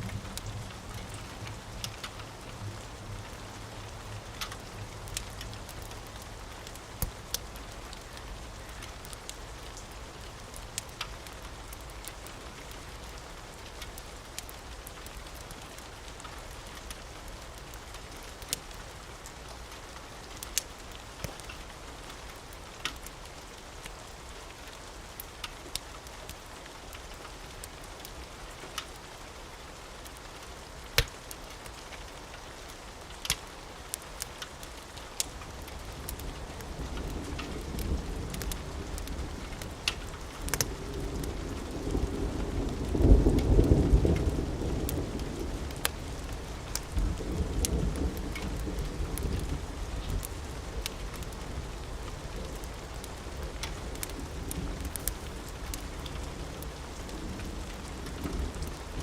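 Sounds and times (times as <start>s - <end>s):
steady rain hiss: 0.0s - 59.0s
wood fire crackling: 0.0s - 59.0s.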